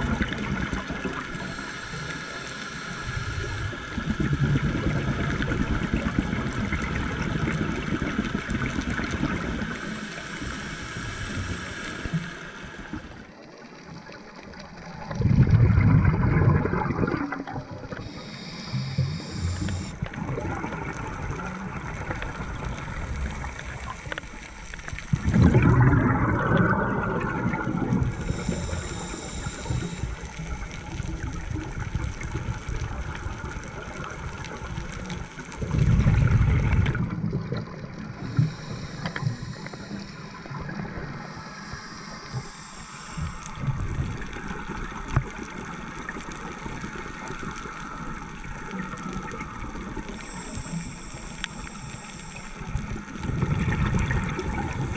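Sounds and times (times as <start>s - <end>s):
diver exhaling regulator bubbles: 0.0s - 12.4s, 14.7s - 24.2s, 25.1s - 32.5s, 35.5s - 45.3s, 49.2s - 54.9s.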